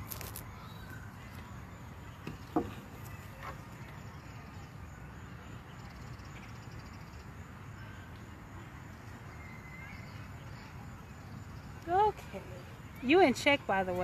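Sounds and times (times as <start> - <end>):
distant wind and traffic rumble: 0.0 - 14.0
faint bird chirps: 0.2 - 13.5.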